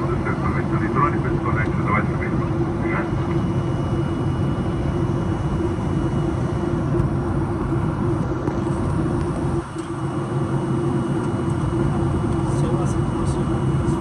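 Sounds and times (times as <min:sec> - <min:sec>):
airliner cabin noise: 0:00.0 - 0:14.0
steady hum: 0:00.0 - 0:14.0.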